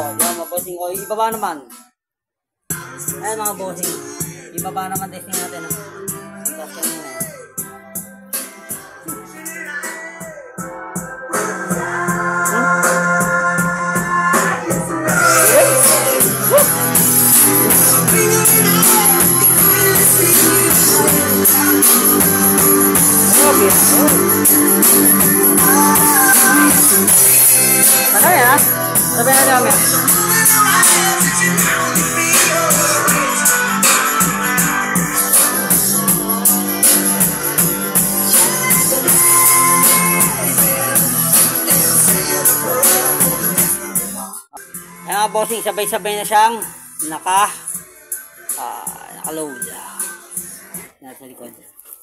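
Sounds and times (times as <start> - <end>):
loud music with steady beat: 0.0 - 2.0, 2.6 - 52.0.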